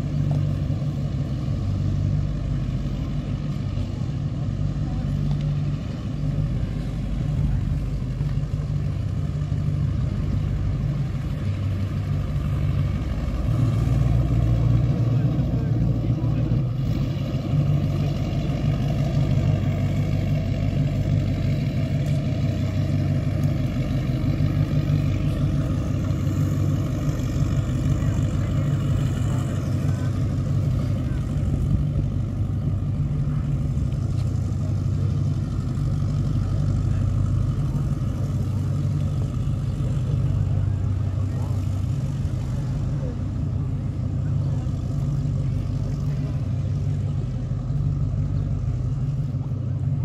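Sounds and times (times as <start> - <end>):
boat engines deep rumble: 0.0 - 50.0.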